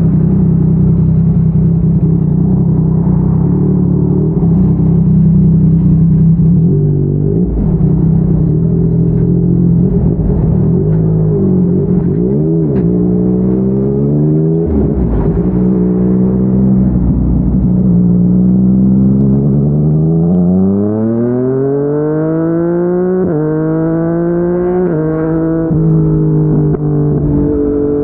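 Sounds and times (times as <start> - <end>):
motorcycle engine cruising and revving: 0.0 - 28.0.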